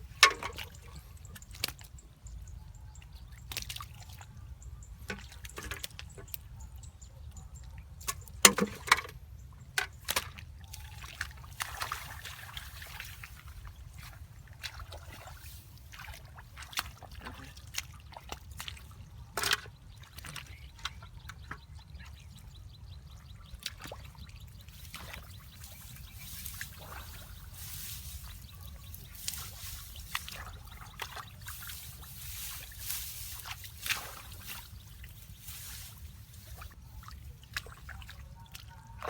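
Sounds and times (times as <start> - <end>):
water splashing and trickling: 0.0 - 39.0.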